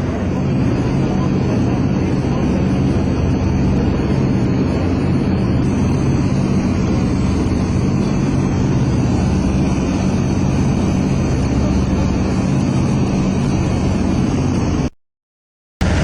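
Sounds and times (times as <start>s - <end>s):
propeller aircraft engines droning: 0.0s - 14.9s.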